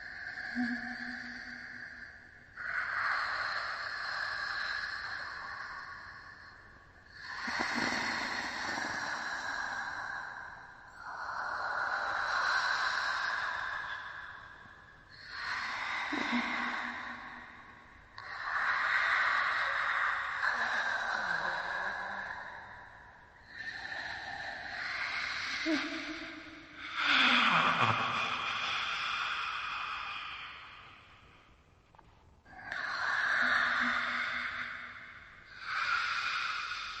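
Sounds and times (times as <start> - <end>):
ghostly whispering: 0.0 - 31.5, 32.5 - 37.0.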